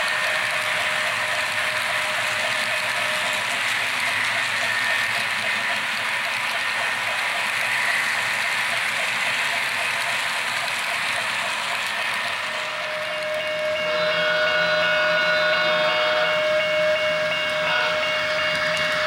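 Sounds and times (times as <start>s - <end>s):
model train cars rolling on track: 0.0s - 19.0s.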